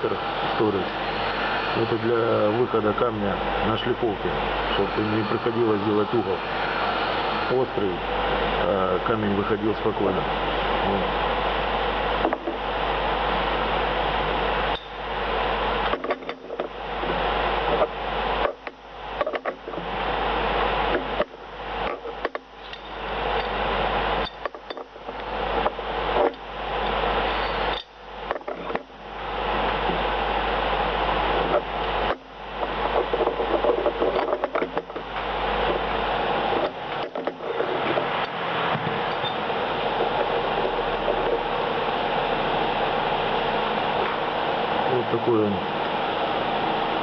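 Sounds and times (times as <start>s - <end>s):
metal lathe whirring: 0.0s - 47.0s.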